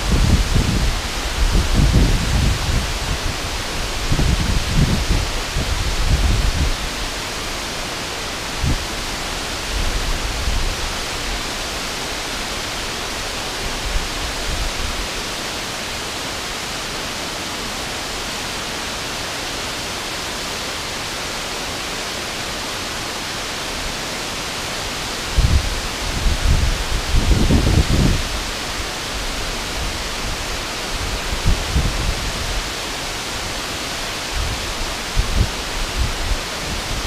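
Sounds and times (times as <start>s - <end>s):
waterfall rushing onto rocks: 0.0s - 37.0s.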